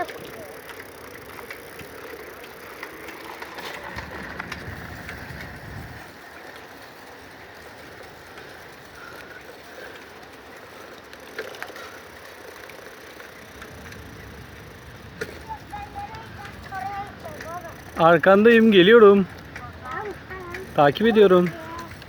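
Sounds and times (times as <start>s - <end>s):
bicycle freewheel ticking: 0.0s - 22.0s
tyre noise: 0.0s - 22.0s.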